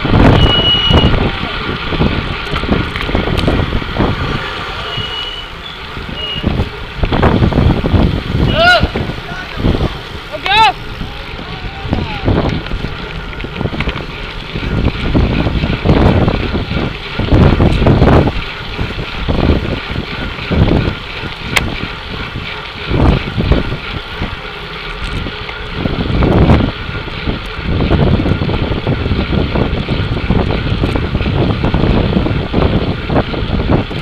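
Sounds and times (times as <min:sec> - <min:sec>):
road and bicycle hiss: 0:00.0 - 0:34.0
wind buffeting microphone: 0:00.0 - 0:34.0.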